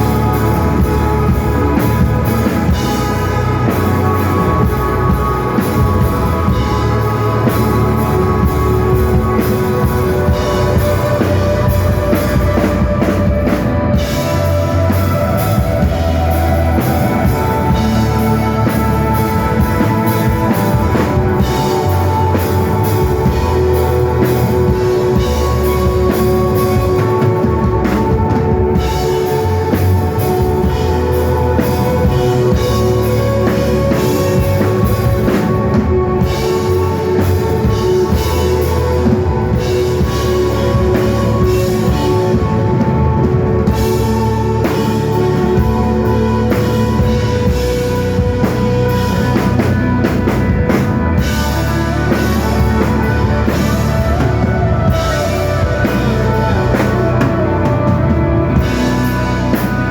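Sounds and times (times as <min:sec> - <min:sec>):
heavy bass drum: 0:00.0 - 0:59.9
rock band playing live: 0:00.0 - 0:59.9.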